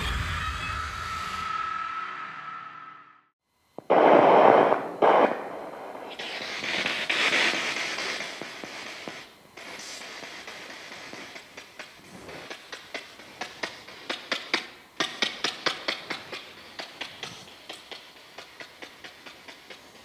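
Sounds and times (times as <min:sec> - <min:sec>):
radio scanner static hiss: 0:03.6 - 0:20.0.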